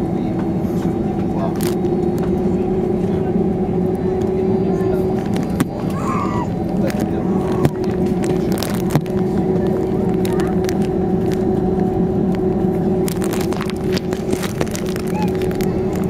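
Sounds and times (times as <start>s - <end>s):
aircraft engines humming: 0.0s - 16.0s.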